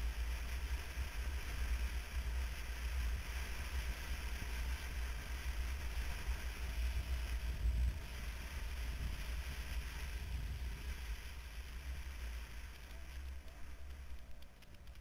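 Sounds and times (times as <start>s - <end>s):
road noise hiss: 0.0s - 15.0s
wind rumble on microphone: 0.0s - 15.0s.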